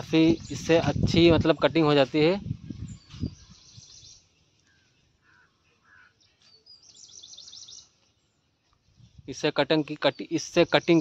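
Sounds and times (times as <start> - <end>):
bird chirping: 0.0 - 1.6, 2.4 - 11.0.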